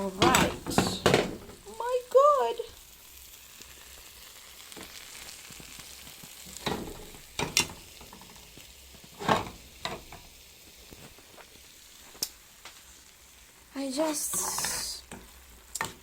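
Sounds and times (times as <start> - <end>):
food sizzling in pot: 0.0 - 16.0.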